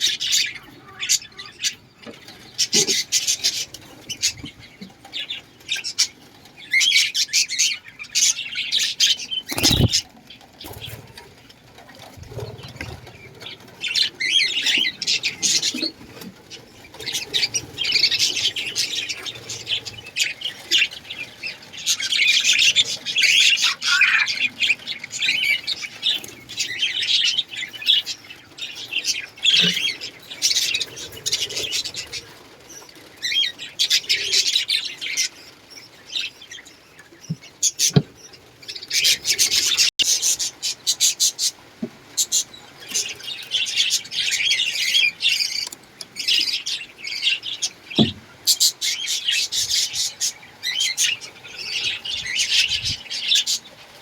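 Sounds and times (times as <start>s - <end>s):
small birds chirping and chattering: 0.0s - 54.0s.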